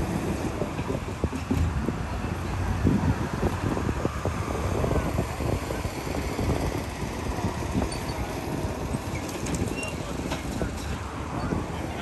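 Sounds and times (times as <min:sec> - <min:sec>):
road traffic engine rumble: 0:00.0 - 0:12.0.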